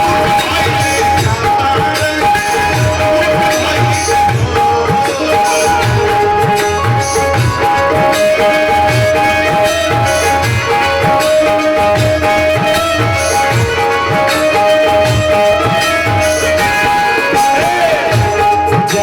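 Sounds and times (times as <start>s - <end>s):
live band instrumental music: 0.0s - 19.0s
steady drum beat: 0.0s - 19.0s.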